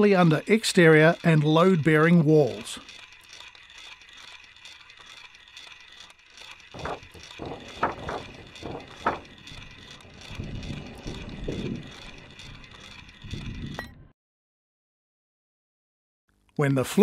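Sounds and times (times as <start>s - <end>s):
faint rapid ticking: 0.0s - 13.8s
mechanical jack strokes: 0.0s - 14.0s.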